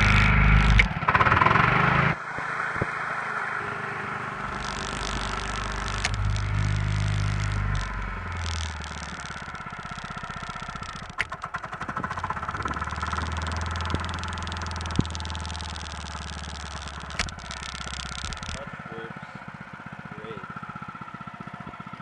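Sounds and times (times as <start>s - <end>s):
sharp clicks: 0.0s - 3.0s, 4.4s - 19.1s
lawn mower engine running: 0.0s - 22.0s.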